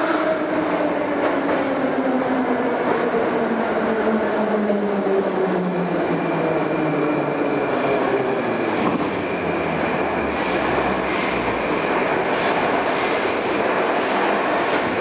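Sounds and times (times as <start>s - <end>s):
metro train motor whine: 0.0s - 14.0s.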